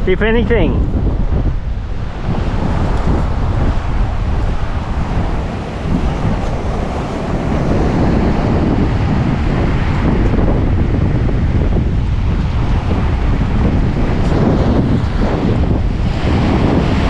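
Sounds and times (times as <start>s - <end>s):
surf washing: 0.0s - 17.0s
wind buffeting microphone: 0.0s - 17.0s.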